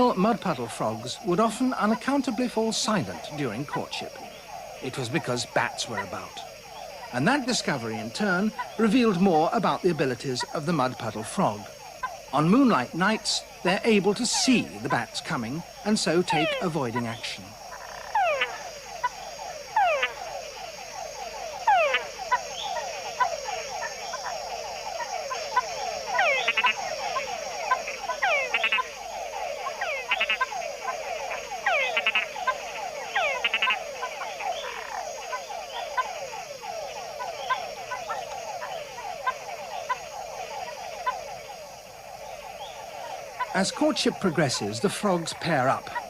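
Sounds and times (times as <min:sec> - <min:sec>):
frogs calling with falling whines: 0:00.0 - 0:46.0
steady high hiss: 0:00.0 - 0:46.0.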